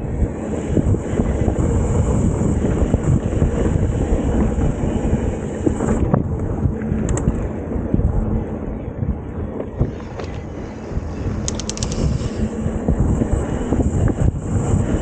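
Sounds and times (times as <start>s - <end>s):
mountain bike rumble and rattle: 0.0s - 15.0s
wind buffeting microphone: 0.0s - 15.0s.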